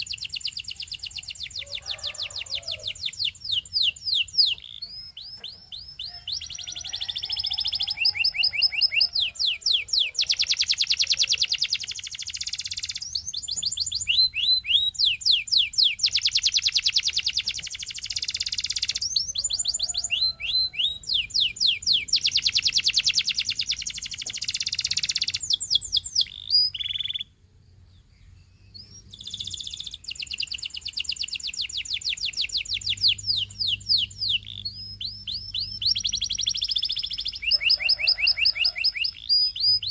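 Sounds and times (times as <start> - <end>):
canary singing: 0.0 - 27.4, 28.0 - 39.9.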